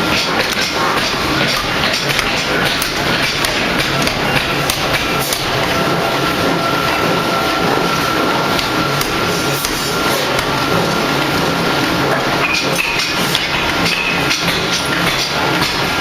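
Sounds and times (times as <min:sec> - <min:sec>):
industrial din: 0:00.0 - 0:16.0.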